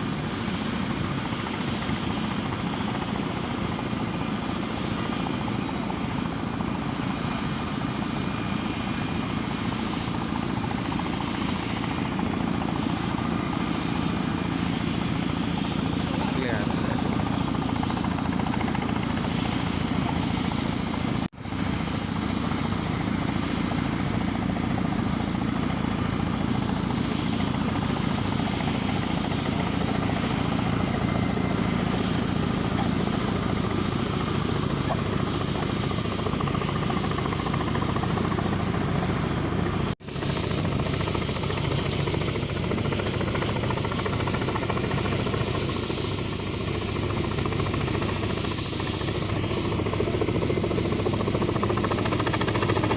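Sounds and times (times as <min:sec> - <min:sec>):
helicopter rotor noise: 0:00.0 - 0:52.9.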